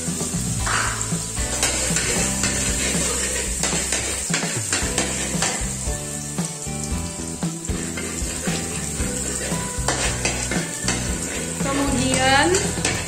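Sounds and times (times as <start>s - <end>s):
garlic sizzling in hot oil: 0.0s - 13.0s
metal spatula scraping a wok: 0.2s - 5.9s, 7.6s - 13.0s.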